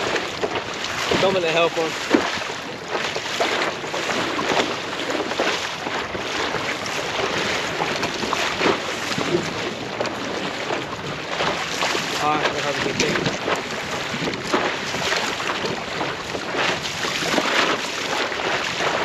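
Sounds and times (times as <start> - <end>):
water slapping against kayak hull: 0.0 - 19.0
wind buffeting microphone: 0.0 - 19.0.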